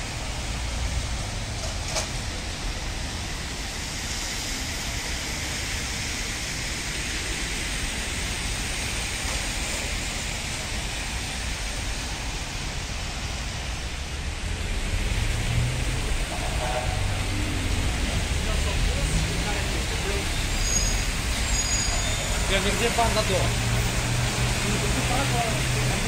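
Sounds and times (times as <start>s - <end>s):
low traffic rumble: 0.0s - 26.0s
tyres swishing on wet road: 0.0s - 26.0s.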